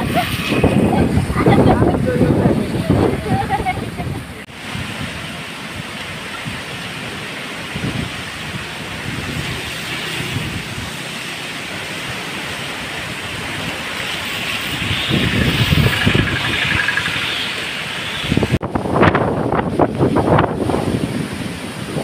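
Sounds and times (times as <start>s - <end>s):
gusts buffeting microphone: 0.0s - 22.0s
storm wind through tree branches: 0.0s - 22.0s.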